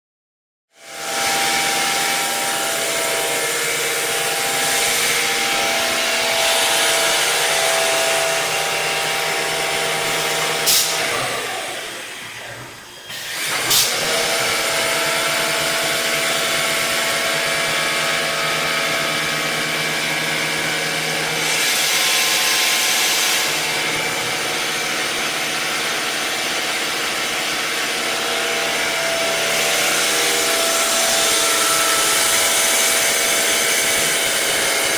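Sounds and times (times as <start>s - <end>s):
drilling machine whine and hiss: 0.8s - 34.9s.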